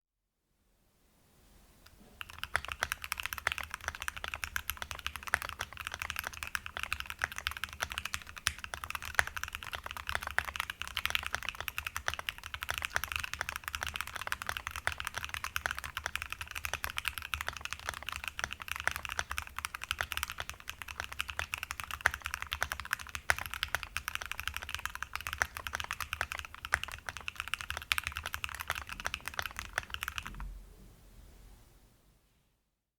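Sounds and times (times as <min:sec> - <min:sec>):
fast typing on mechanical keyboard: 0:02.2 - 0:30.4.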